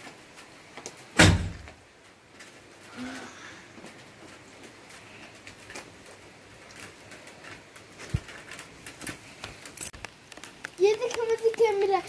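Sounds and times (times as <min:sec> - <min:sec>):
light rain on pavement: 0:00.0 - 0:12.0.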